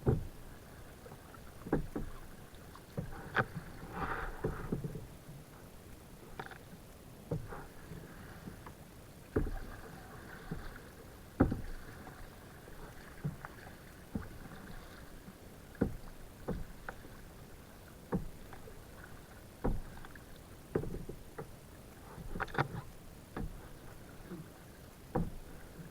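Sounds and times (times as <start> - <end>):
kayak paddle strokes splashing: 0.0 - 25.9.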